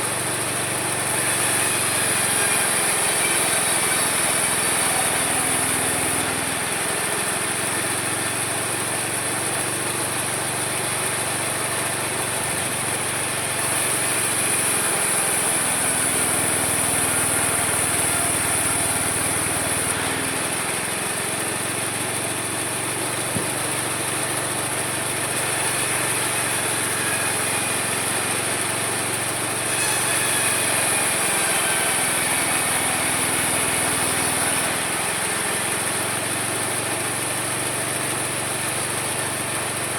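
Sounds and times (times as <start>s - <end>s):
sawmill humming and whining: 0.0s - 39.9s.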